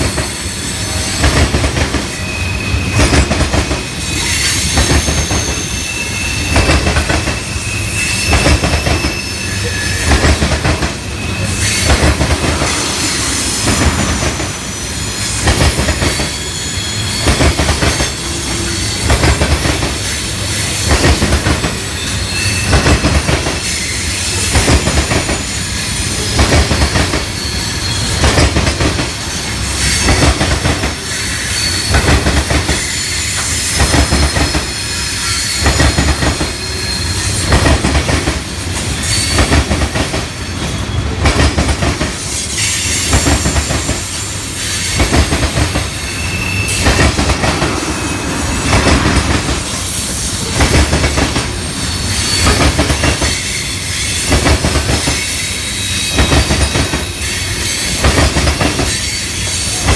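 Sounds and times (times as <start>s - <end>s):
metallic wheel squeal: 0.0s - 20.9s, 21.7s - 24.5s, 25.5s - 39.7s, 42.2s - 59.9s
clatter of train wheels: 0.0s - 59.9s
train cars rumbling past: 0.0s - 59.9s.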